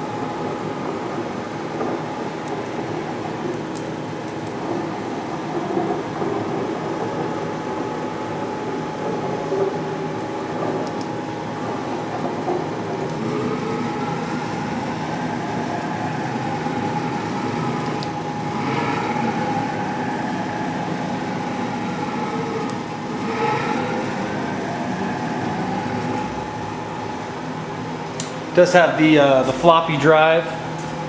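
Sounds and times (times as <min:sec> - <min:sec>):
machine hum: 0:00.0 - 0:31.0
mill axis drives whining: 0:00.0 - 0:31.0.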